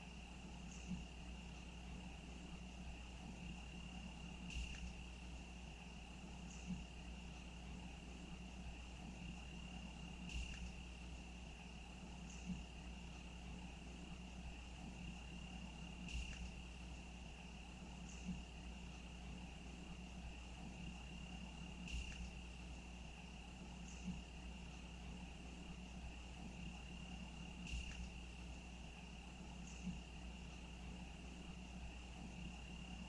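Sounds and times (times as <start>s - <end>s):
faint ticks: 0.0s - 1.9s, 2.6s - 5.5s, 6.2s - 7.6s, 9.0s - 13.6s, 14.8s - 22.7s, 23.6s - 33.0s
insects trilling: 0.0s - 33.0s.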